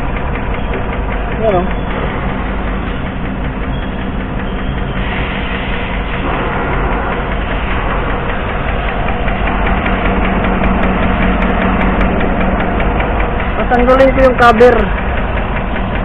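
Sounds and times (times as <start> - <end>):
engine idling: 0.0 - 16.0
rhythmic valvetrain ticking: 0.0 - 16.0.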